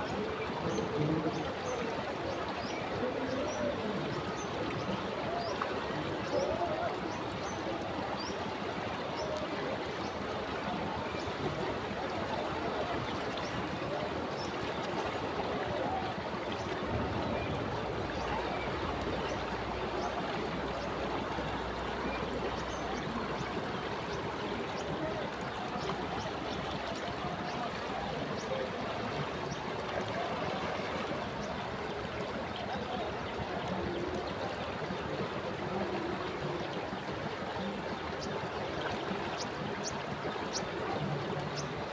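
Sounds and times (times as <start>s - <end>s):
river water rushing and gurgling: 0.0s - 41.9s.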